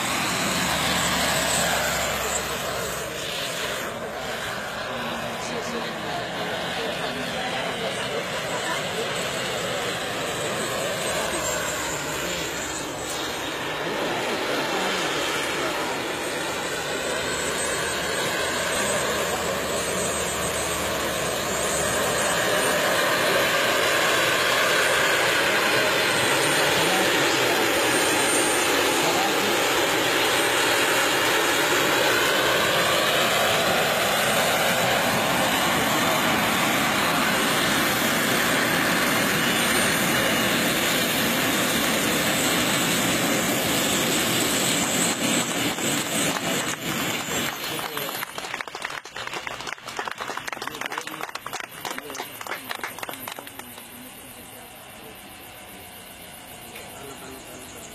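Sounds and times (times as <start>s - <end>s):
model helicopter engine and rotor: 0.0s - 57.9s.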